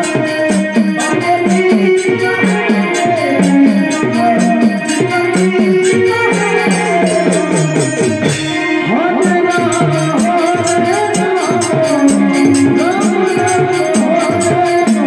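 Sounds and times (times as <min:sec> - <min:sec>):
jingling rattle percussion: 0:00.0 - 0:08.6, 0:09.5 - 0:15.0
hand drum: 0:00.0 - 0:15.0
keyboard melody: 0:00.0 - 0:15.0.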